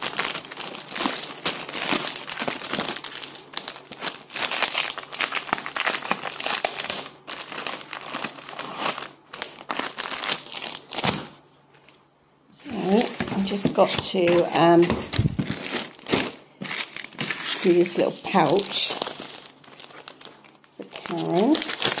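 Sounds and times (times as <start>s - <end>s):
plastic bags crinkling: 0.0s - 11.4s, 12.6s - 22.0s.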